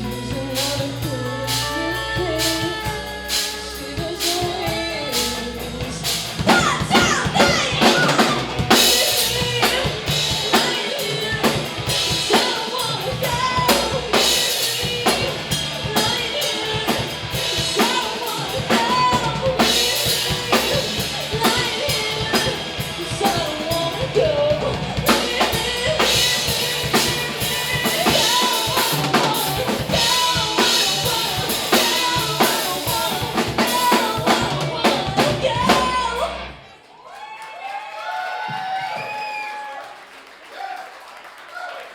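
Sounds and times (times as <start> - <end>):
live rock band playing: 0.0 - 36.8.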